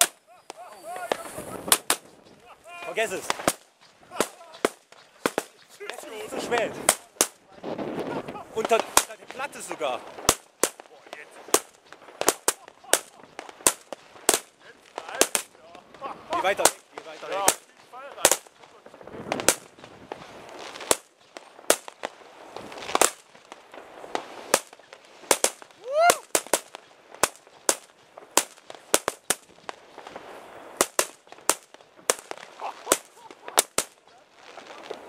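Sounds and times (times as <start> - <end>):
firecrackers banging: 0.0 - 35.0.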